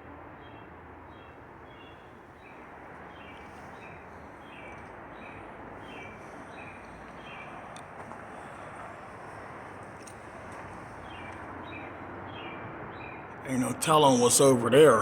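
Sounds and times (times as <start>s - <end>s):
outdoor background hiss: 0.0s - 15.0s
bird chirping: 0.5s - 8.8s, 10.0s - 15.0s.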